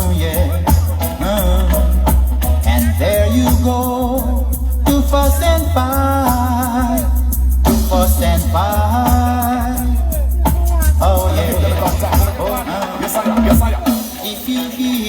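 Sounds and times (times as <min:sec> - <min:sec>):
reggae music with singing: 0:00.0 - 0:15.0.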